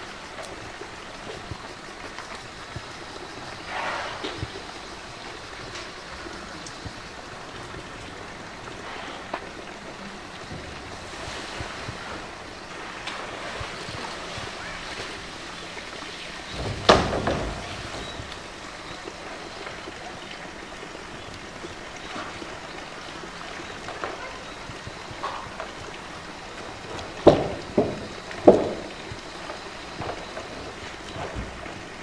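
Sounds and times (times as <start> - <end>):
water rushing and lapping: 0.0 - 32.0.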